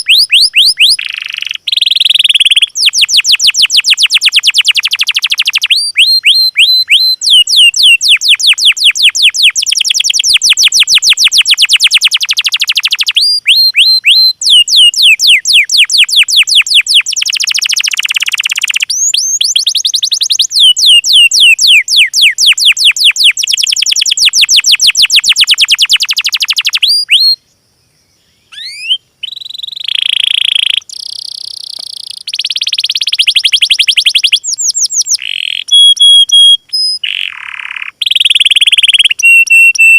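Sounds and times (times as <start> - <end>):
songbird chirps: 0.0 - 39.9.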